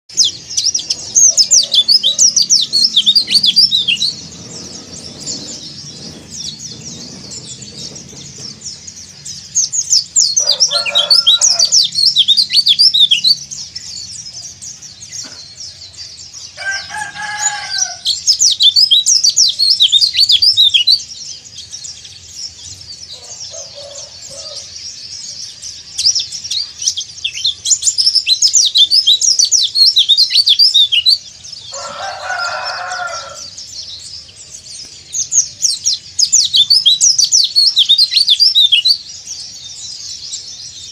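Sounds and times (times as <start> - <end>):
bird twittering chirps: 0.1 - 40.9.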